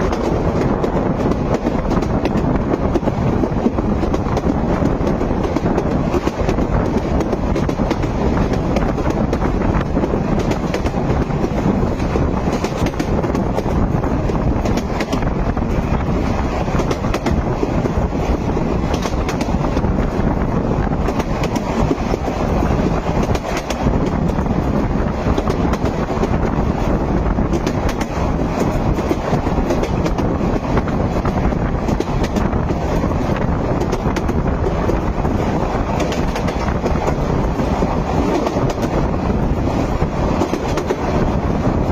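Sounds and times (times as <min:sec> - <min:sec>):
train rumbling on track: 0:00.0 - 0:41.9.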